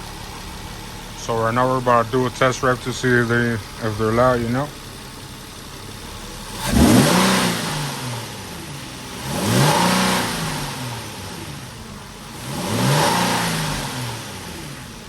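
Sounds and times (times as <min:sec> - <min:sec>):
car engine revving from idle: 0:00.0 - 0:15.0
loud intake noise: 0:00.0 - 0:15.0.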